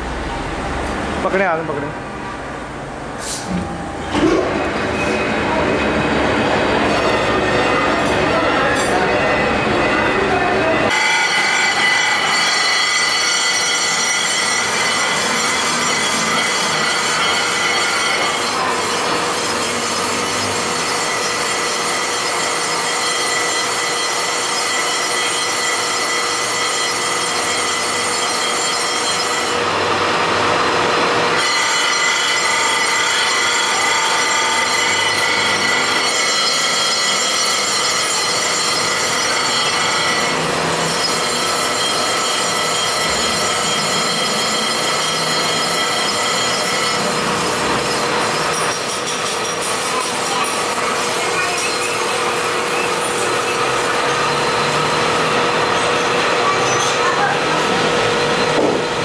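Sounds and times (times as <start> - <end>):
grinding wheel on steel: 3.8 - 59.0.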